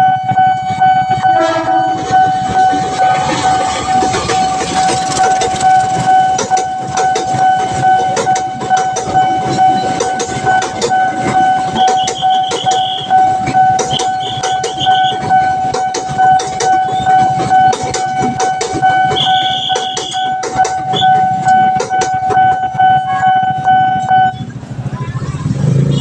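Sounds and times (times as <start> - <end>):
level crossing alarm tone: 0.0 - 24.5
train wheels clattering over rails: 1.1 - 25.9.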